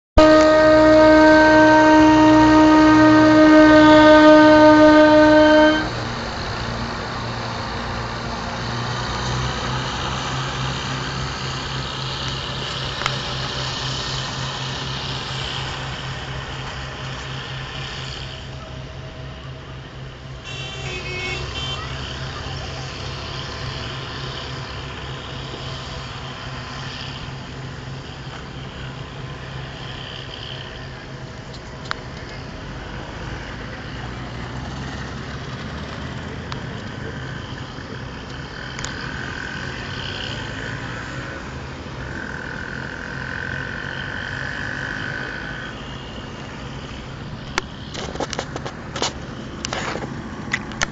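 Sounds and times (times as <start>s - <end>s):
locomotive horn: 0.2s - 35.1s, 37.2s - 50.2s
diesel engine throbbing: 0.2s - 50.9s.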